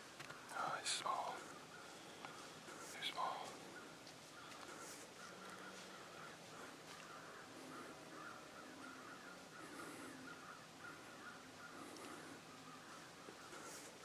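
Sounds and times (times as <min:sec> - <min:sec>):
distant birds calling: 0:00.0 - 0:14.0.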